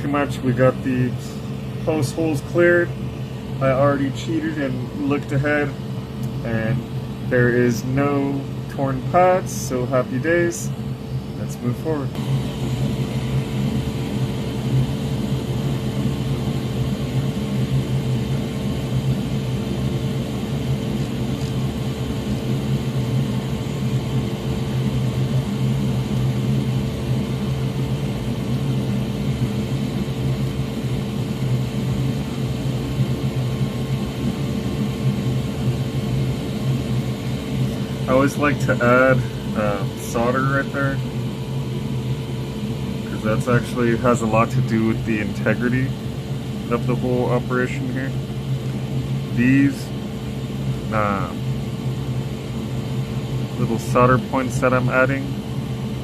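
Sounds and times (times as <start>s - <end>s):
fan humming: 0.0s - 56.0s.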